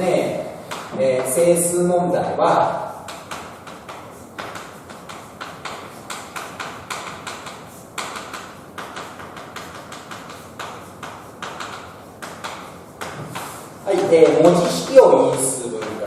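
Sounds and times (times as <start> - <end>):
writing taps and scrapes on board: 0.7 - 1.4, 3.0 - 16.0.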